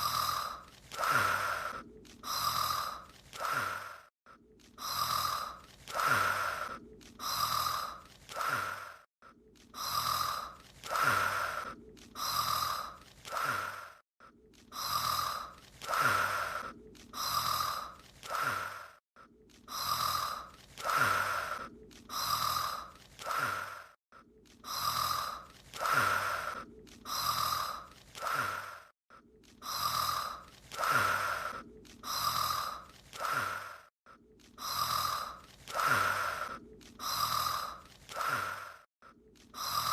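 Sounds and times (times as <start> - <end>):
cartoon snoring: 0.0 - 4.1, 4.8 - 9.1, 9.7 - 14.0, 14.7 - 19.0, 19.6 - 24.0, 24.6 - 28.9, 29.6 - 33.9, 34.6 - 38.9, 39.5 - 39.9.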